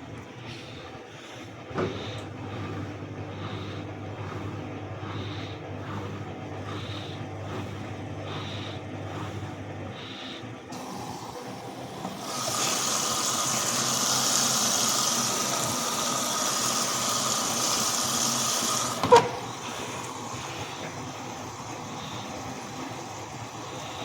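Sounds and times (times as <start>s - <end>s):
washing machine water intake hiss: 0.0s - 24.0s.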